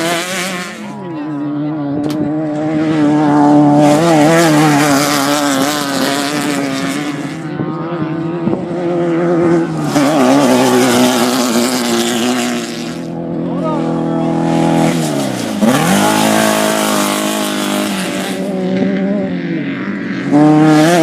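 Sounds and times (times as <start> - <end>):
race vehicle engines revving: 0.0 - 21.0
vehicles passing by: 0.0 - 21.0.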